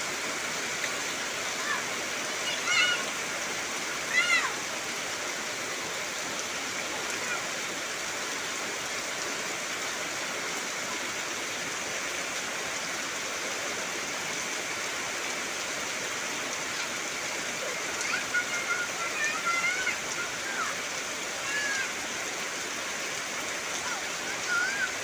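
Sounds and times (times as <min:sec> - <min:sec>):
heavy rain on trees: 0:00.0 - 0:25.0.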